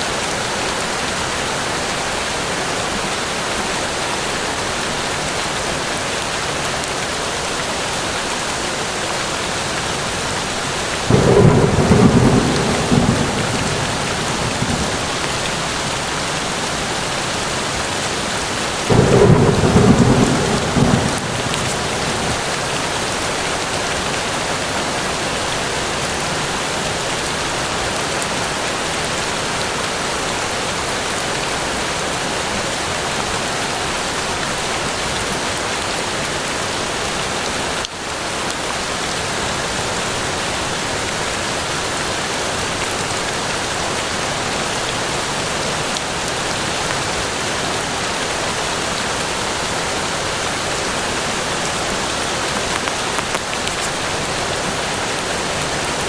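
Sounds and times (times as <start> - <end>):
louder raindrops: 0.0 - 56.0
steady rain patter: 0.0 - 56.0.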